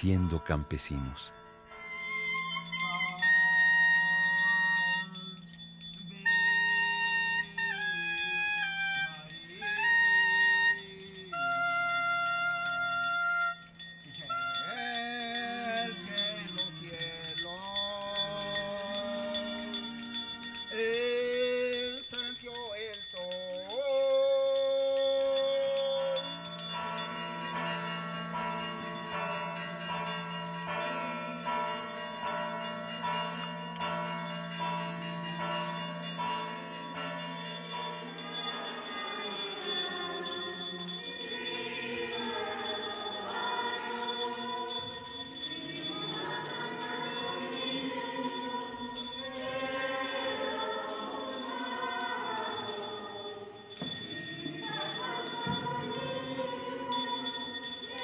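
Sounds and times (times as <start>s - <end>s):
bells struck ringing: 0.0s - 58.0s.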